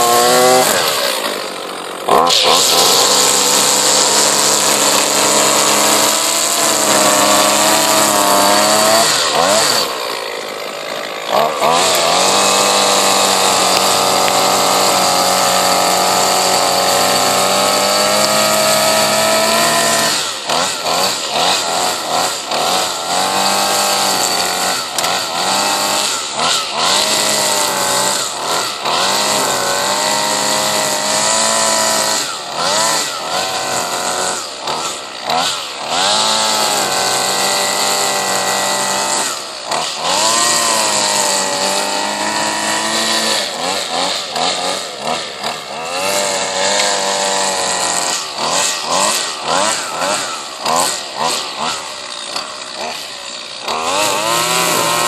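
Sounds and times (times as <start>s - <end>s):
string trimmer engine revving: 0.0s - 55.0s.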